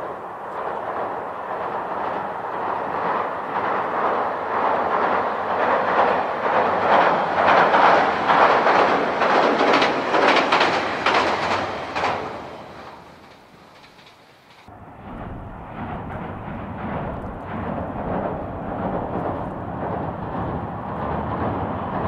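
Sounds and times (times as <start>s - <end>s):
train wheels clattering on bridge: 0.0s - 22.0s.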